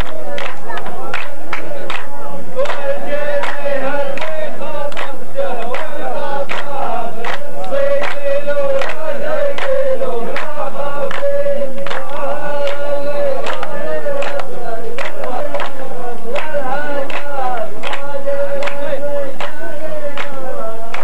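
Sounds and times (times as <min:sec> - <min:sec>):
men chanting in unison: 0:00.0 - 0:21.0
sharp hand claps: 0:00.0 - 0:21.0.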